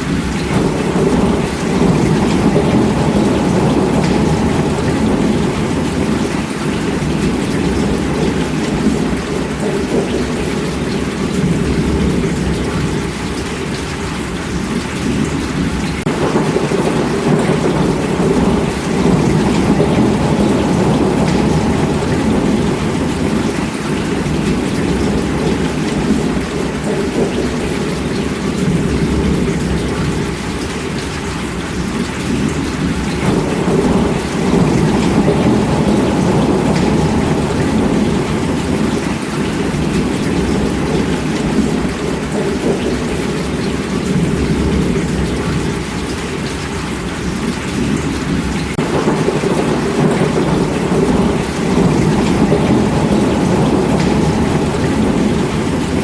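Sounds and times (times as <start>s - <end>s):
heavy rainfall: 0.0s - 56.0s.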